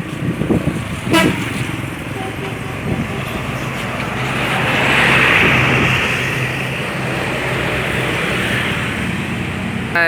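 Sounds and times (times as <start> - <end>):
heavy vehicle passing: 0.0 - 10.0.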